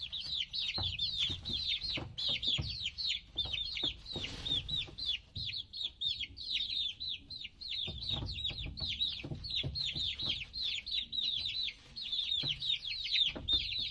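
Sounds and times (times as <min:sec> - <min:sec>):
baby chicks peeping: 0:00.0 - 0:13.9.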